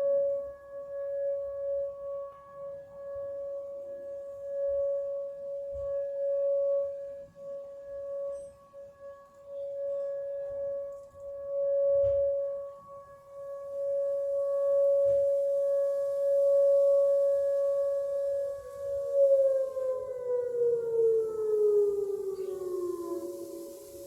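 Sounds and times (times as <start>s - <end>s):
tornado warning siren: 0.0s - 24.0s.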